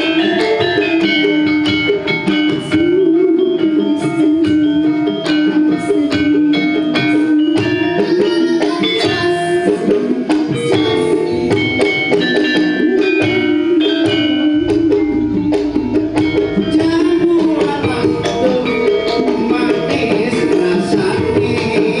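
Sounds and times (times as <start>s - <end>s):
hand drum strokes: 0.0s - 22.0s
ringing metal gamelan tones: 0.0s - 22.0s
wavering melody line: 0.0s - 22.0s.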